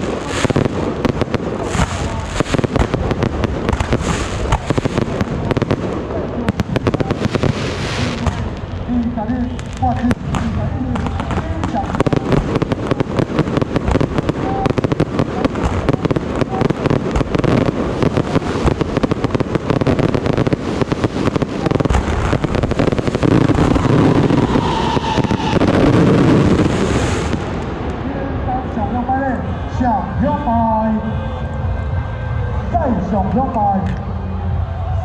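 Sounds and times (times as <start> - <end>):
firecrackers popping: 0.0 - 29.7.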